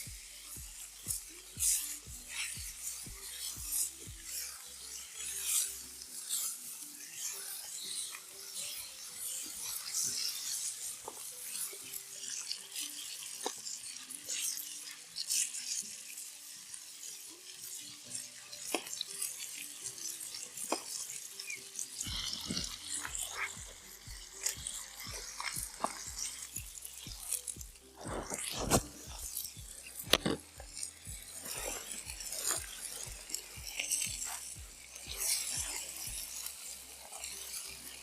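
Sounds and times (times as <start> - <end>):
food sizzling over campfire: 0.0 - 38.0
soft music: 0.0 - 38.0.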